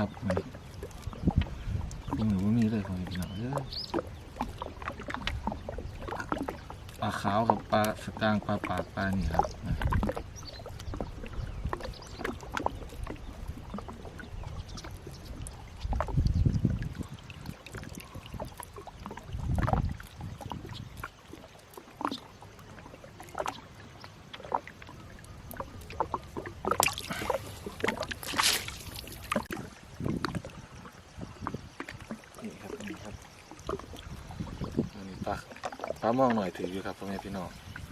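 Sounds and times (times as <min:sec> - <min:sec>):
knocks and clicks against boat: 0:00.0 - 0:37.9
water splashing and dripping: 0:00.0 - 0:37.9.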